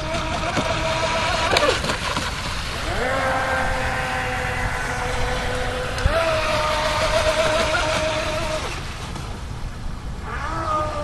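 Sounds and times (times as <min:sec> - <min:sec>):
water and wind hiss: 0:00.0 - 0:11.0.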